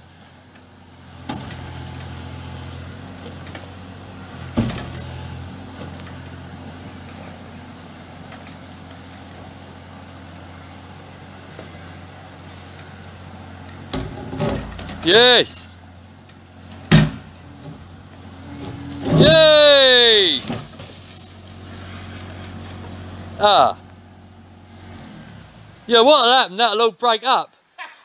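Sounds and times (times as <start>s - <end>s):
excavator engine running: 0.1s - 26.4s.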